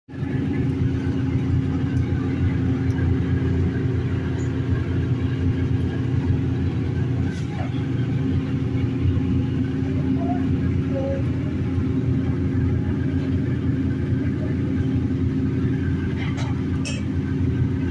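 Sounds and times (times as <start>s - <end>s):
gas stove rumbling: 0.1s - 17.9s.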